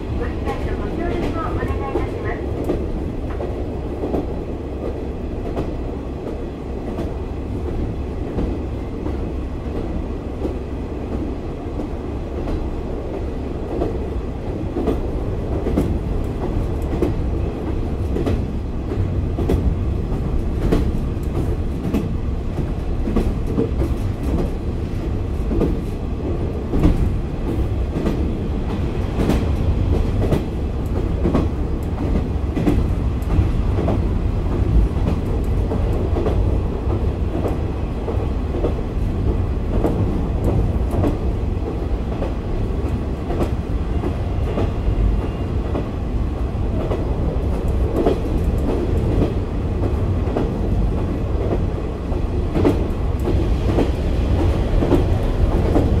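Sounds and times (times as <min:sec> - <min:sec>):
diesel railcar engine rumbling: 0:00.0 - 0:56.0.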